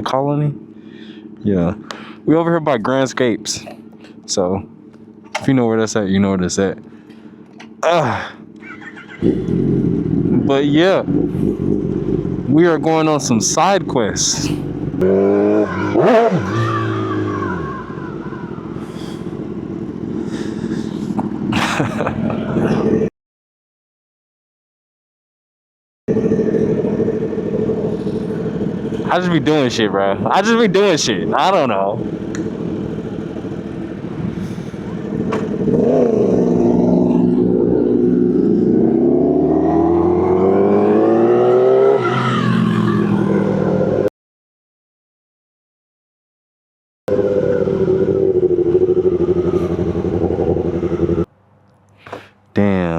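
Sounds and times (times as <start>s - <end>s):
motorcycle engine running: 0.0s - 23.1s, 26.1s - 44.0s, 47.1s - 51.3s.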